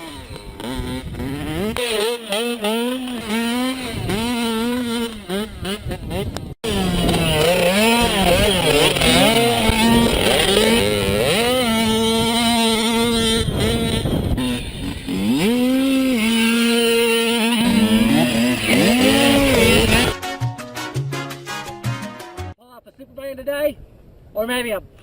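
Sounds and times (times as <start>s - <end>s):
mini motorcycle engine revving: 0.0s - 20.2s.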